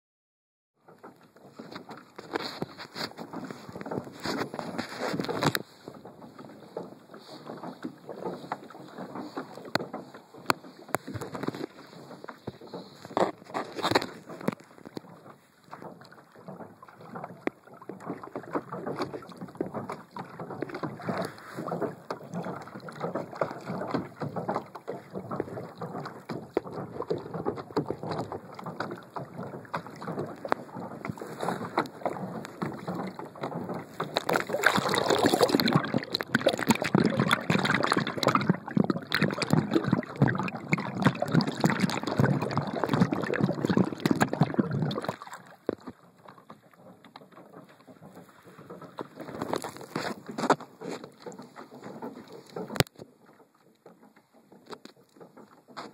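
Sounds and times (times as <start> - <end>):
water splashing against kayak hull: 0.8 - 55.9.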